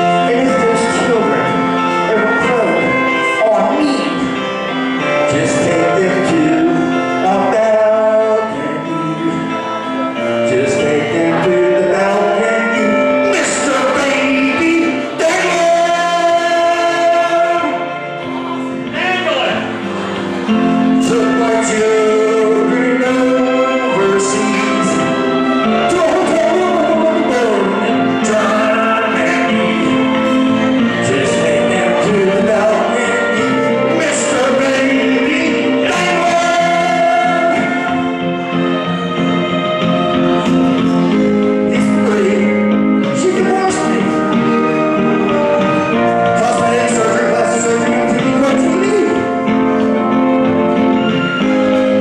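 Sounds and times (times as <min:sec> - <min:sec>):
instrumental music: 0:00.0 - 0:52.0
man singing into microphone: 0:00.0 - 0:52.0.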